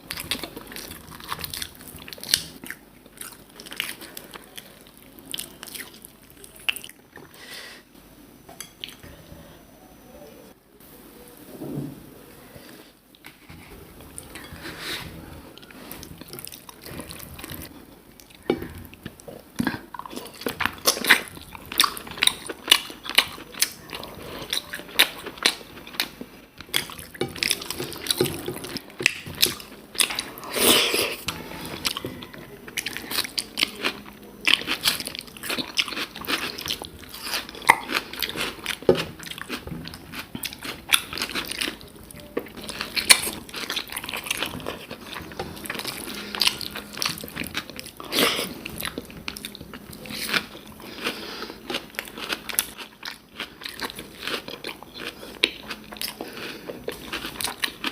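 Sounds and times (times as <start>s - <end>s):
person chewing food: 0.0s - 7.4s, 13.1s - 57.9s.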